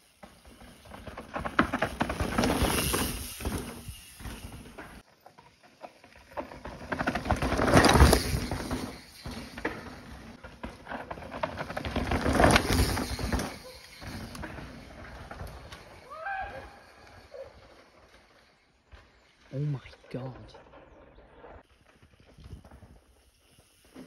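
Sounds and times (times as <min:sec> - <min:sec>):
bike tyres crunching on dirt: 0:00.0 - 0:19.8, 0:20.7 - 0:24.0.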